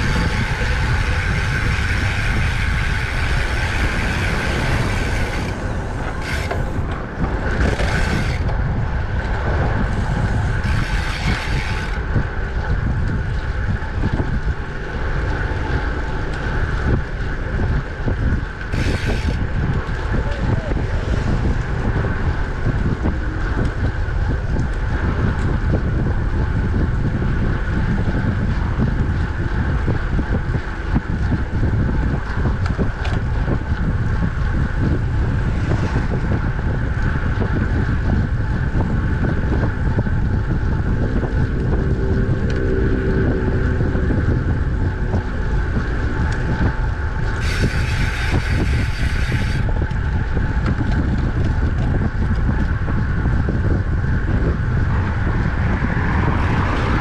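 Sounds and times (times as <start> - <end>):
bike tyre hum: 0.0 - 57.0
wind buffeting microphone: 0.0 - 57.0.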